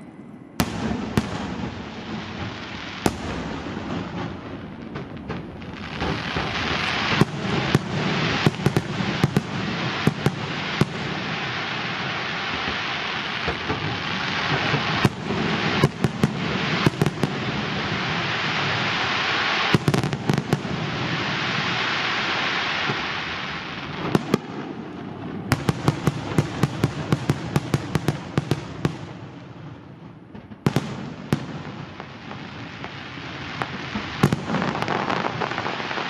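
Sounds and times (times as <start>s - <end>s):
fireworks crackling: 0.6s - 36.0s.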